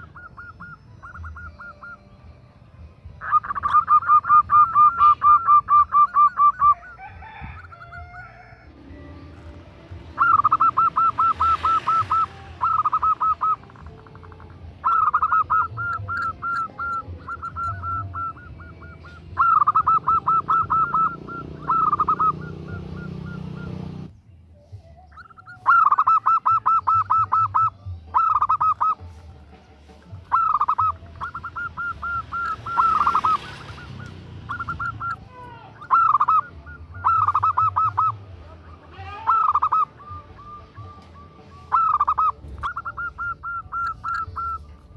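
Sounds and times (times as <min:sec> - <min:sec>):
dove cooing in rolling notes: 0:00.0 - 0:02.2, 0:03.0 - 0:24.1, 0:25.2 - 0:29.3, 0:30.0 - 0:44.9.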